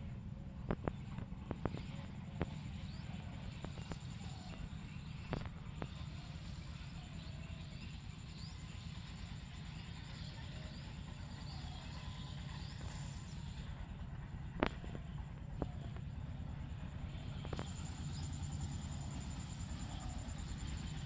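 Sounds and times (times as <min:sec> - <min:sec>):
insect trill: 0:00.4 - 0:21.0.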